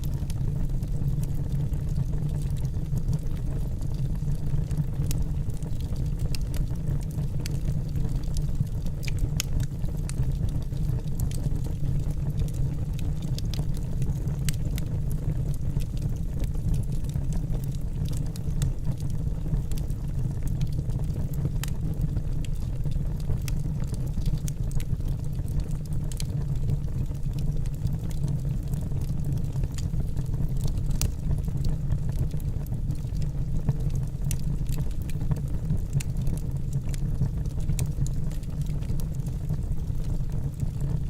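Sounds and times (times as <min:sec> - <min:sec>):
wood fire burning and crackling: 0:00.0 - 0:41.0.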